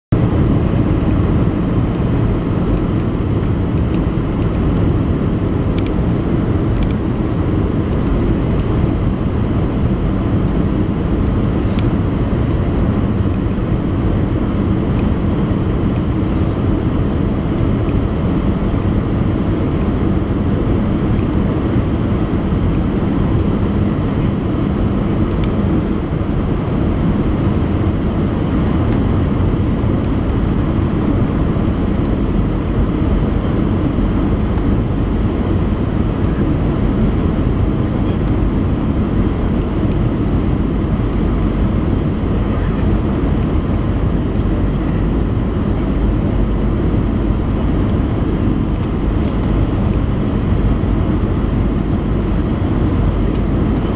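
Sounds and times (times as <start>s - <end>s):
airflow and jet engine roar: 0.0s - 53.9s.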